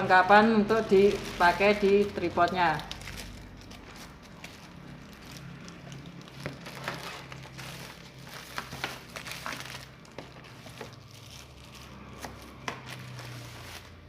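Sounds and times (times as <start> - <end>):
low steady hum: 0.0 - 14.0
packaging crinkling: 0.7 - 14.0.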